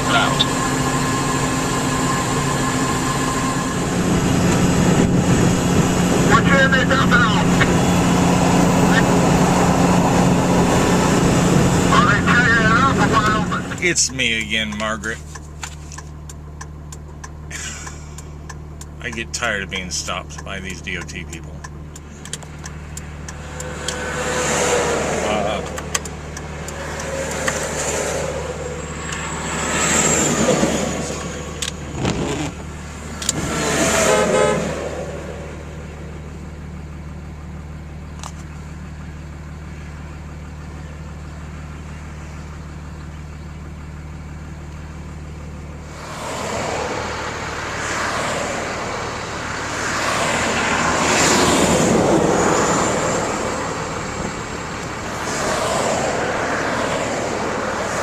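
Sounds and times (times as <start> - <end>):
truck engine idling: 0.0 - 33.4, 34.8 - 58.0
vehicles passing on highway: 0.0 - 58.0.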